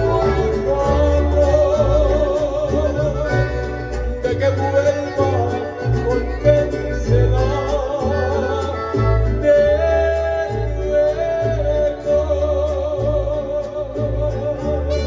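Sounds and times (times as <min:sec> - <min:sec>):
mariachi band music: 0:00.0 - 0:15.0
person singing: 0:00.0 - 0:15.0
plucked bass line: 0:00.0 - 0:15.0.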